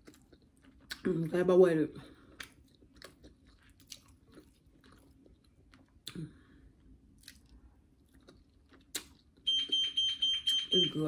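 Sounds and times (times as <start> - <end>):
person chewing food: 0.0 - 1.3, 2.0 - 9.8.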